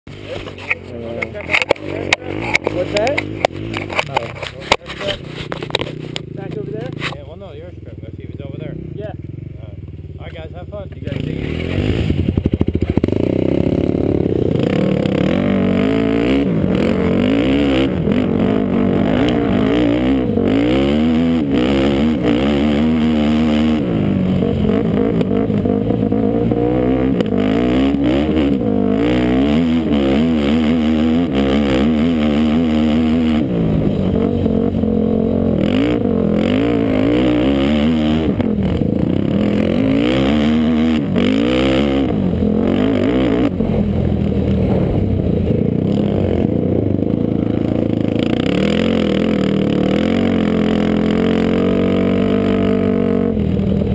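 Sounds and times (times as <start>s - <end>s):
atv engine revving: 0.1s - 53.9s.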